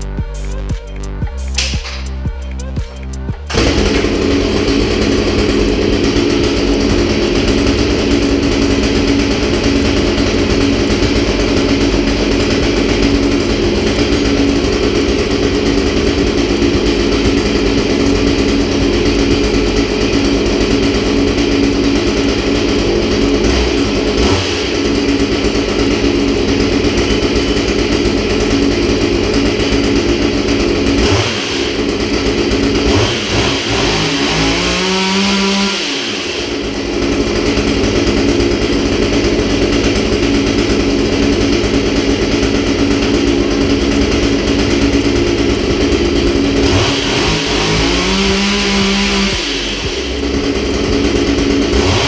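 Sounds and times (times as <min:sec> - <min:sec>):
chainsaw engine running: 0:00.0 - 0:52.0.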